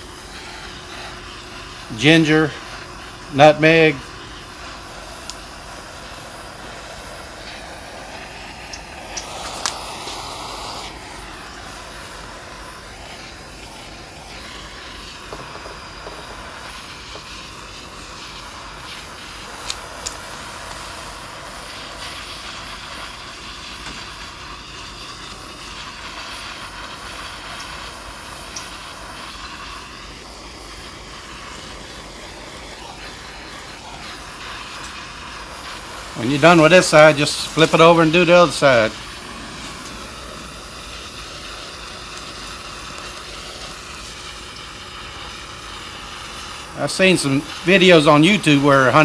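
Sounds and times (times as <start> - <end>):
gas torch flame hissing: 0.0 - 49.0.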